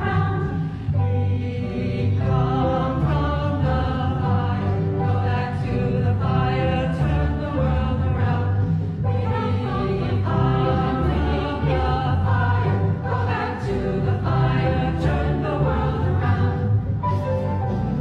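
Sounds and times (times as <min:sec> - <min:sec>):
choir singing held notes: 0:00.0 - 0:17.9
low accompaniment: 0:00.0 - 0:18.0.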